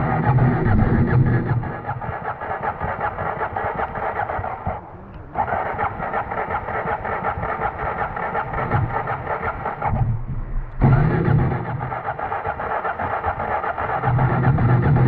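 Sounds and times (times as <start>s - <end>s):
engine cranking on starter: 0.0s - 15.0s.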